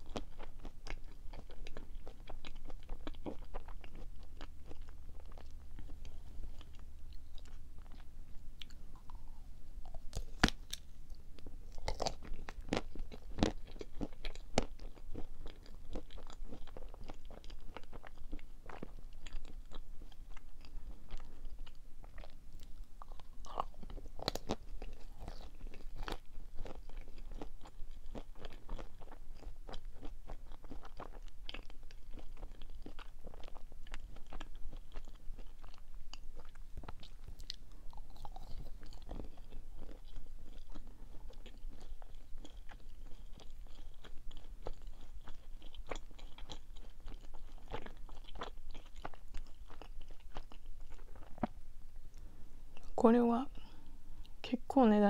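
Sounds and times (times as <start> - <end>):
chewing soft sweet: 0.0 - 54.5.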